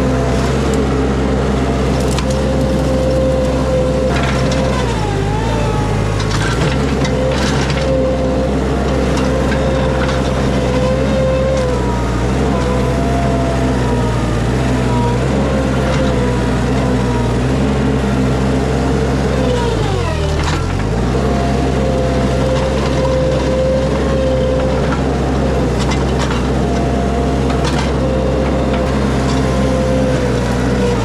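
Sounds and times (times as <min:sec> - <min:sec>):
skid steer engine running hard: 0:00.0 - 0:31.0.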